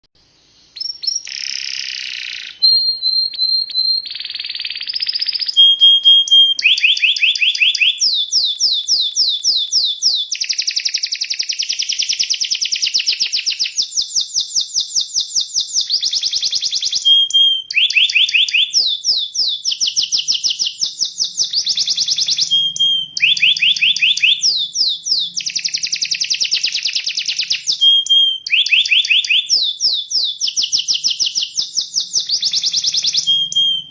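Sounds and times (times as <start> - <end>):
canary singing: 0.2 - 33.9.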